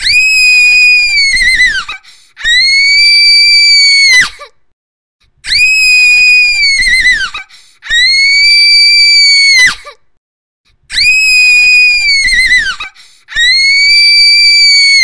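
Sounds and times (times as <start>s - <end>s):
girl screaming: 0.0s - 4.5s, 5.4s - 10.0s, 10.9s - 15.0s.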